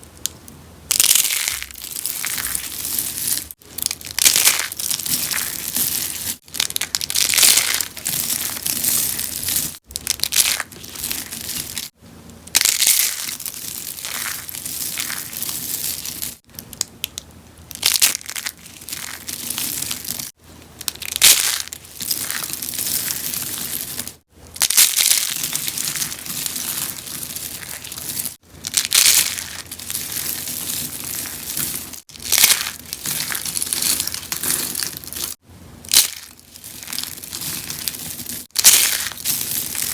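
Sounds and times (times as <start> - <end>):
soaps being crushed crunching: 0.9 - 11.9, 12.5 - 39.9.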